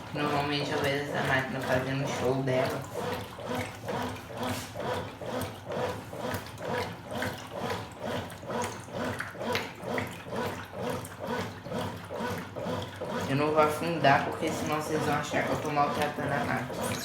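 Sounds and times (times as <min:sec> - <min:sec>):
washing machine agitator swishing: 0:00.0 - 0:17.0
water sloshing: 0:00.0 - 0:17.0.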